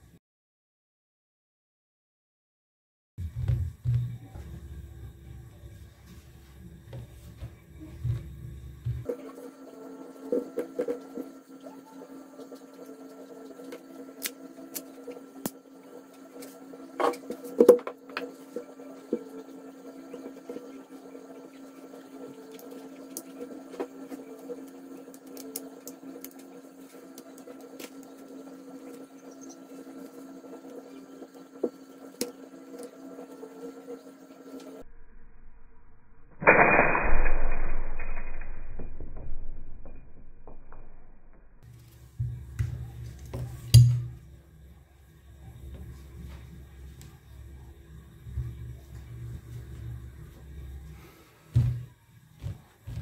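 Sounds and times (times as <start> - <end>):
steady machine hum: 3.2 - 38.4, 39.6 - 53.0.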